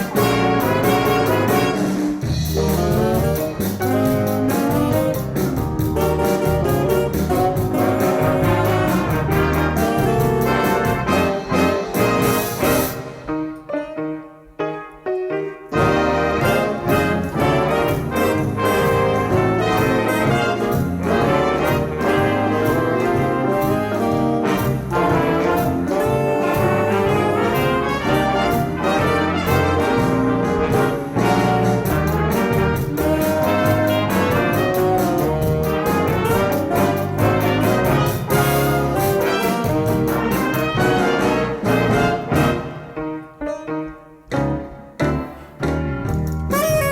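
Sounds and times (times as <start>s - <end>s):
brass ensemble music with beat: 0.0s - 14.9s, 15.7s - 46.9s.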